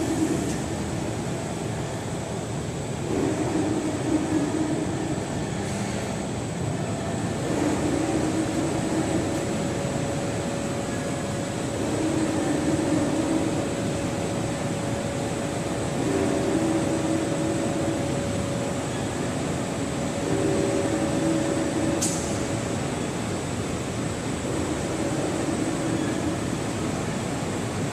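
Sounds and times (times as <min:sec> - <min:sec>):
low machine tone: 0:00.0 - 0:27.9
machine humming: 0:00.0 - 0:27.9.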